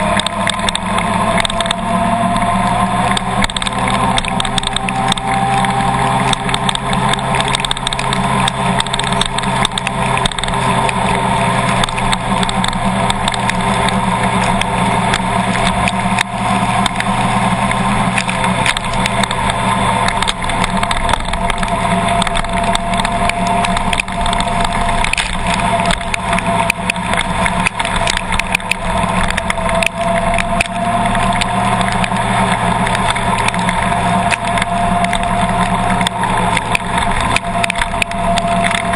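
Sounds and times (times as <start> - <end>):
small clicks: 0.0 - 38.9
thin wavering whine: 0.0 - 38.9
vehicle engine running: 0.0 - 38.9.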